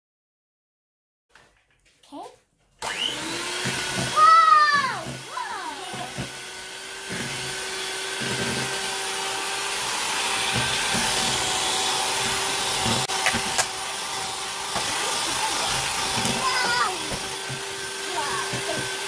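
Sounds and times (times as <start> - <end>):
beaters churning dough: 2.8 - 19.0
hand mixer motor whine: 2.8 - 19.0.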